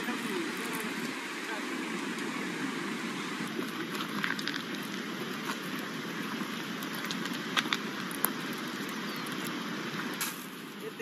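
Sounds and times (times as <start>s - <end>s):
footsteps and paws on stones: 0.0s - 10.3s
flowing river water: 0.0s - 11.0s.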